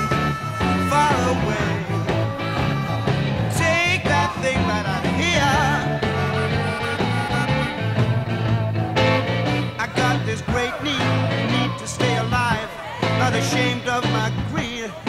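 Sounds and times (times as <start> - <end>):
rock song: 0.0 - 15.0.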